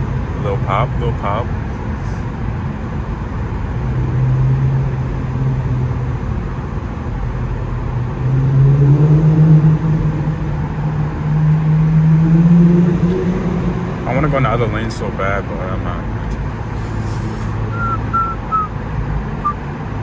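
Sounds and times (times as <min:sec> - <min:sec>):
car exhaust droning: 0:00.0 - 0:20.0.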